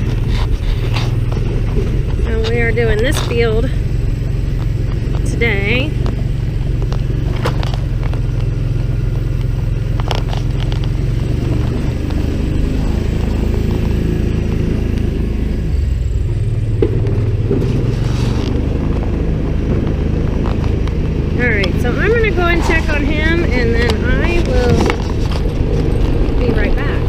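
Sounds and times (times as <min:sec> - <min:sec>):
rattles and knocks: 0:00.0 - 0:14.6, 0:16.6 - 0:27.0
farm vehicle engine running: 0:00.0 - 0:27.0.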